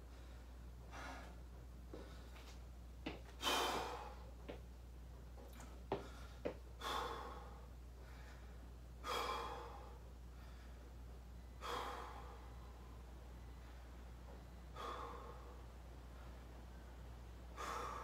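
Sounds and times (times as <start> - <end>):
man breathing heavily: 0.0 - 4.6, 5.4 - 18.0.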